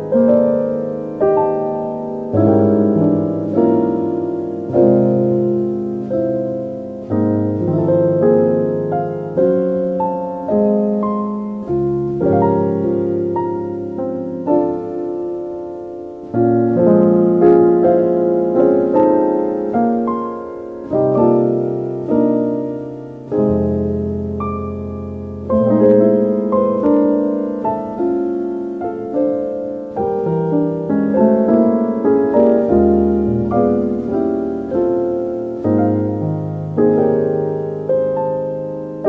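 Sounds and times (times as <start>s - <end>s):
slow gentle piano music: 0.0s - 39.0s.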